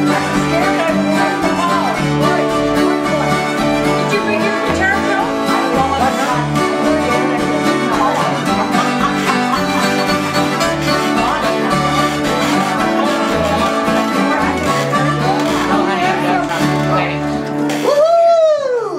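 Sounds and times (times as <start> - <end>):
fiddle melody: 0.0 - 17.7
acoustic guitars strumming: 0.0 - 18.4.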